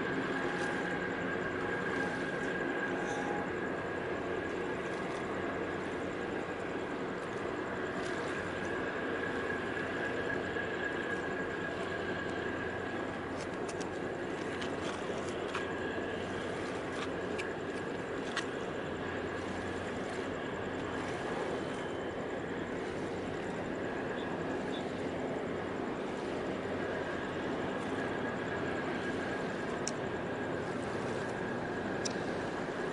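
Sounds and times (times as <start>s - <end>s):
faint high whine: 0.0s - 32.9s
low hum: 0.0s - 32.9s
ship machinery drone: 0.0s - 32.9s.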